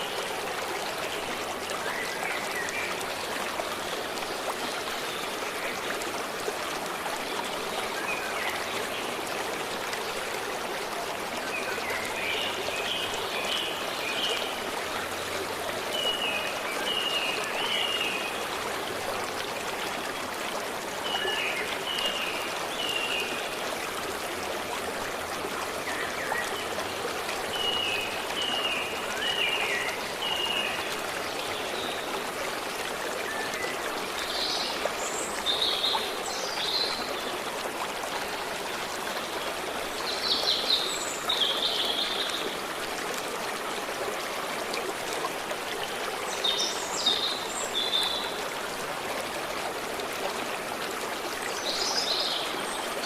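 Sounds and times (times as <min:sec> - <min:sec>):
stream water running: 0:00.0 - 0:53.0.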